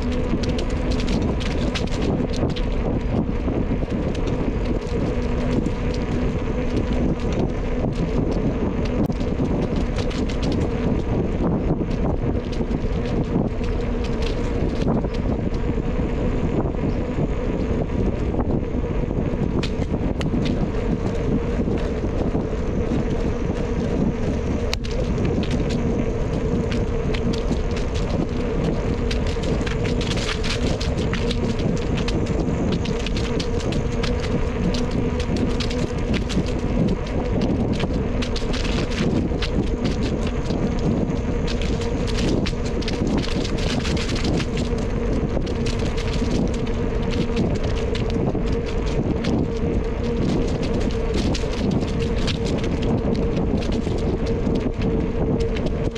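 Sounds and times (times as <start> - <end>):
bicycle tyres rolling: 0.0 - 55.9
faint steady hum: 0.0 - 55.9
small crackles: 0.0 - 55.9
wind rushing over microphone: 0.0 - 55.9.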